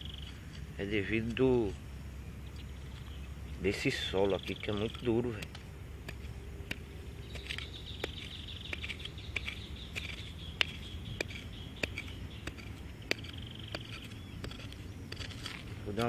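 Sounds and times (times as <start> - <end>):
hand digging in dry soil: 2.9 - 16.0.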